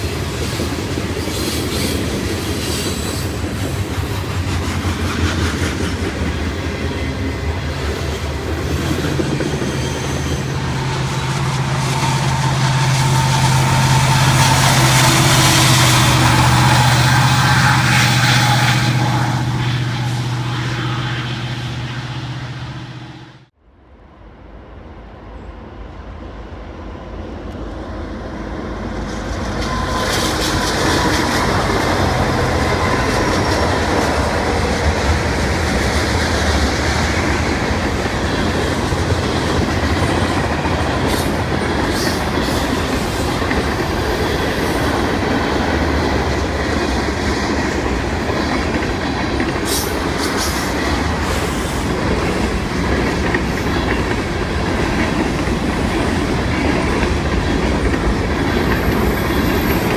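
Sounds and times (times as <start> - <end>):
train wheels clattering on rails: 0.0 - 23.2, 28.8 - 59.9
diesel locomotive engine hum: 0.0 - 59.9.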